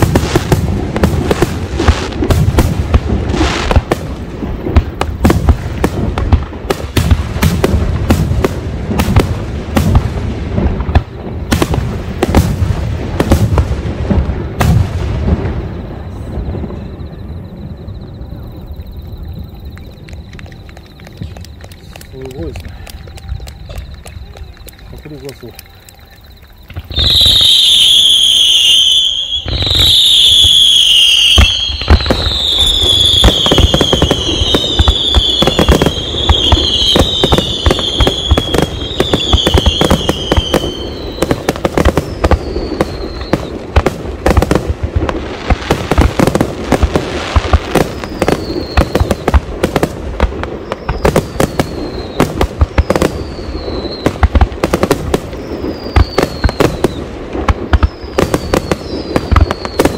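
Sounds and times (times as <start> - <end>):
fireworks bangs: 0.0 - 59.9
fireworks crackling: 0.0 - 59.9
whistling fireworks: 0.0 - 59.9.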